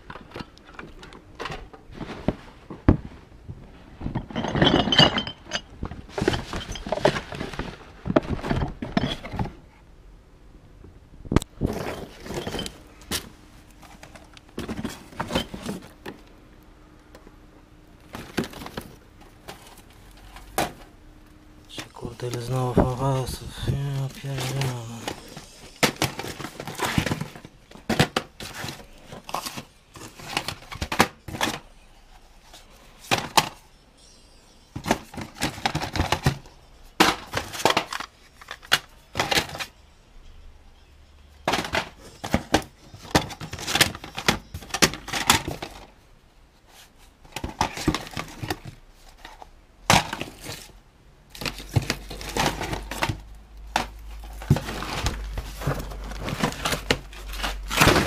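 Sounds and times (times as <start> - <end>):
plastic cassettes clattering: 0.0 - 3.0, 4.0 - 9.6, 11.4 - 16.3, 18.0 - 20.9, 21.6 - 31.8, 32.4 - 33.6, 34.7 - 39.8, 41.4 - 46.0, 46.7 - 58.0.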